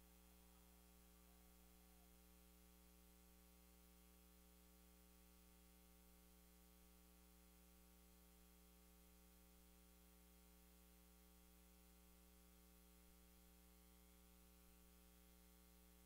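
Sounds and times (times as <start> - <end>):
faint hum and hiss: 0.0 - 16.0.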